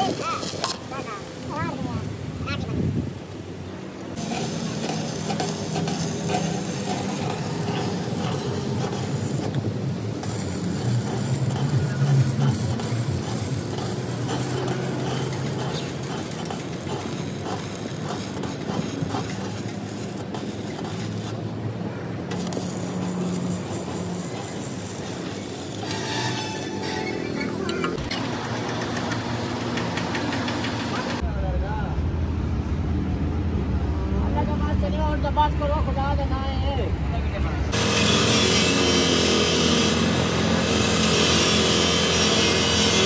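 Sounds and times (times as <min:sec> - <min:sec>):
arc welding crackling: 0:00.0 - 0:03.4, 0:04.2 - 0:31.2, 0:37.7 - 0:43.0.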